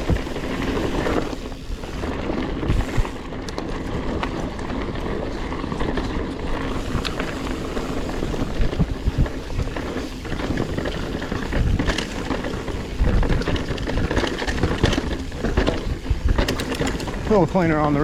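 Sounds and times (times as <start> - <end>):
bike knocks and rattles: 0.0 - 18.0
wind buffeting microphone: 0.0 - 18.0.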